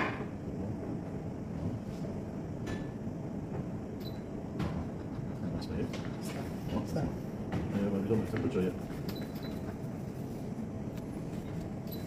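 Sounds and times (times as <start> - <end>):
low kitchen room rumble: 0.0 - 12.0.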